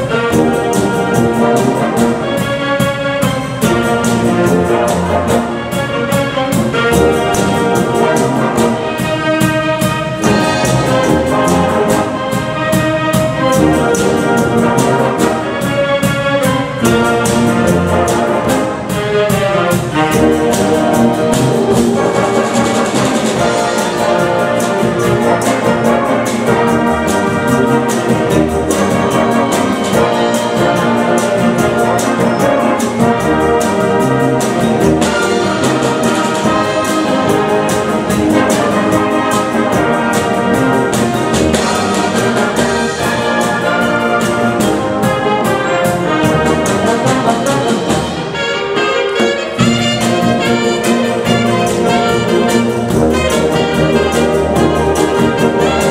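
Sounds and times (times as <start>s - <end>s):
wind band playing pop medley: 0.0s - 55.9s.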